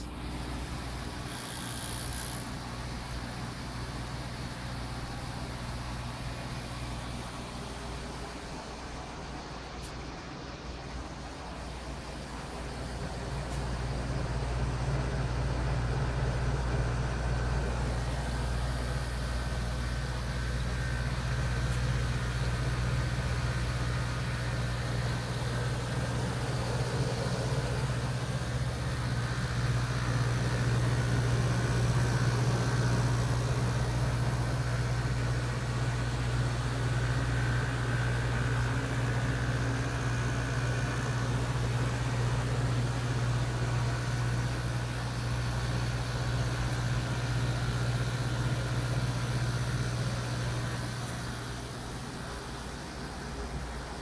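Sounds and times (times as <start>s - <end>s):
compressors and fans humming: 0.0s - 54.0s.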